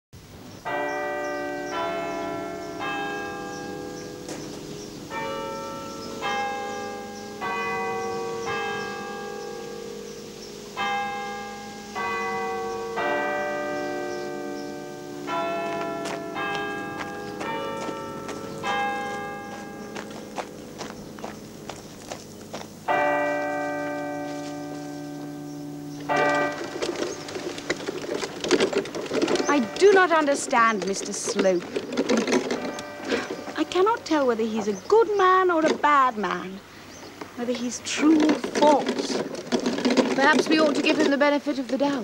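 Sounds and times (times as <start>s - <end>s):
church bells ringing: 0.6s - 36.7s.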